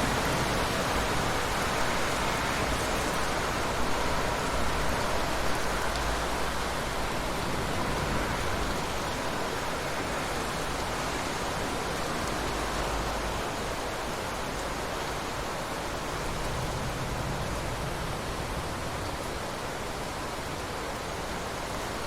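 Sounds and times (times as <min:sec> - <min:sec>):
rain falling in a forest: 0:00.0 - 0:22.0.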